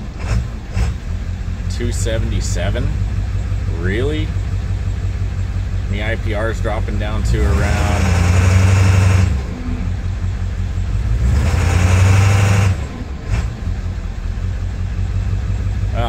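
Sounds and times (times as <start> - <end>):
diesel engine revving: 0.0 - 16.0.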